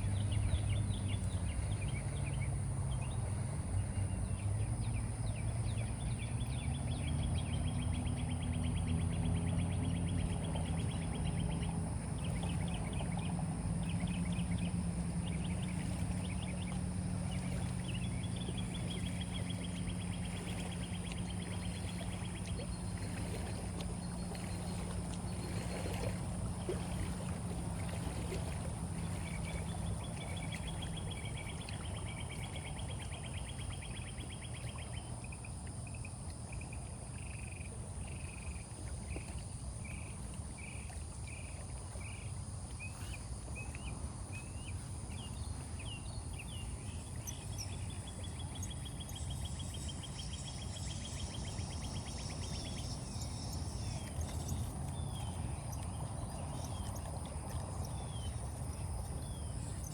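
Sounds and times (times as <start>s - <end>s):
boat motor humming: 0.0s - 59.9s
insects chirping: 4.0s - 59.9s.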